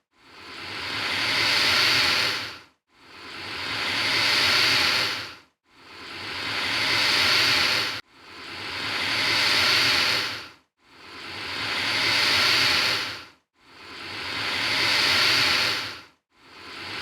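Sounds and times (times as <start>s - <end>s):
alligator hissing: 0.4s - 2.5s, 3.2s - 5.3s, 5.9s - 10.5s, 11.1s - 17.0s.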